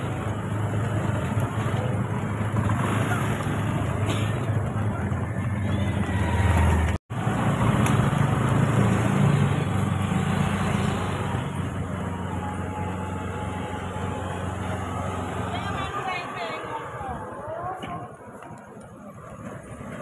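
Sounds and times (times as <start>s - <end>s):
motor scooters passing: 0.0s - 20.0s.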